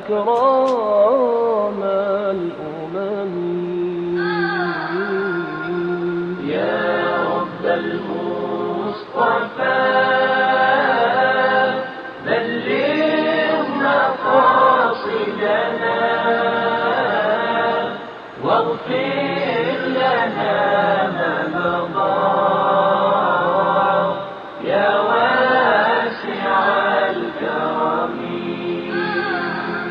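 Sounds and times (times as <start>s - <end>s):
choir-like voices singing: 0.0s - 29.9s.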